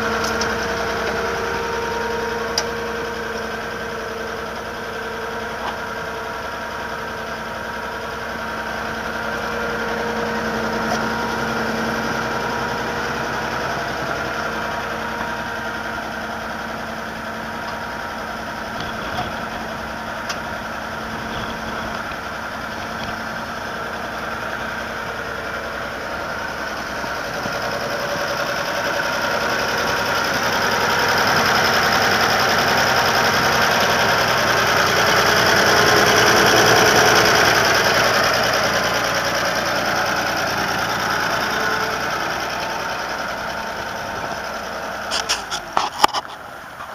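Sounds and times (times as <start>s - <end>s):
tractor engine idling: 0.0s - 46.9s.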